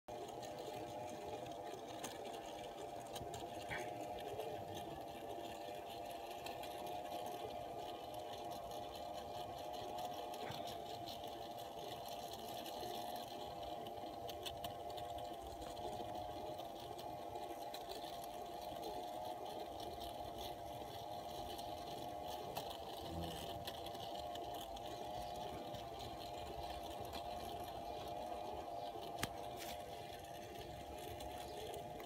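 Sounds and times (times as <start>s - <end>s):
motor and cable hum: 0.0s - 32.0s
faint clicks: 0.1s - 32.0s.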